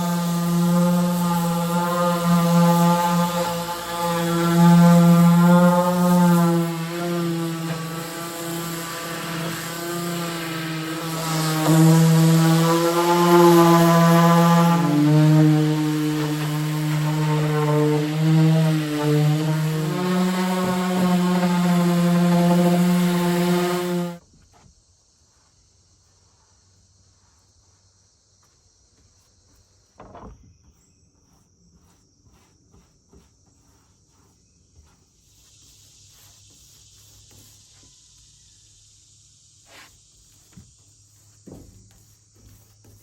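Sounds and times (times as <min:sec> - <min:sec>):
insects chirring: 0:00.2 - 0:43.0.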